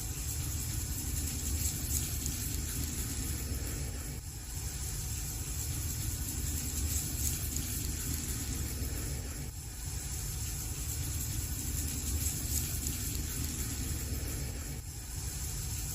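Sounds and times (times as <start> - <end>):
wood fire burning: 0.6 - 15.3.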